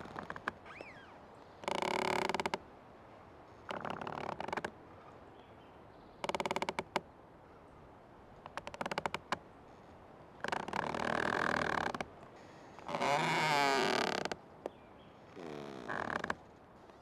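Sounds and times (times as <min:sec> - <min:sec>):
old tree creaking: 0:00.0 - 0:02.7, 0:03.4 - 0:05.2, 0:06.2 - 0:07.1, 0:08.4 - 0:17.0
tree ticking: 0:00.0 - 0:02.7, 0:03.5 - 0:05.1, 0:06.1 - 0:07.1, 0:08.3 - 0:17.0.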